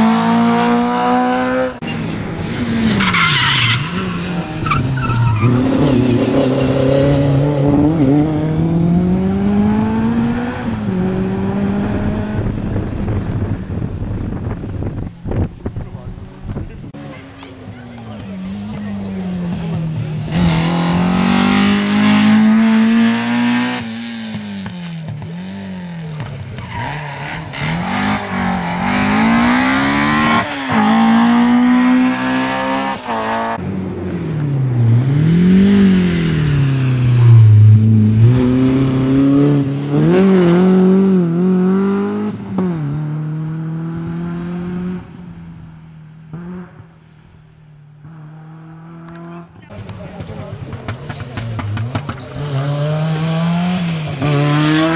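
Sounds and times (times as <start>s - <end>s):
rally car engine revving: 0.0s - 47.0s, 47.9s - 54.9s.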